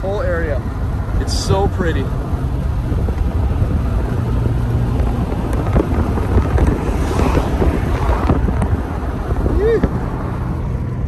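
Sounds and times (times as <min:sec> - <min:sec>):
road and tyre rumble: 0:00.0 - 0:11.0
wind rushing over microphone: 0:00.0 - 0:11.0.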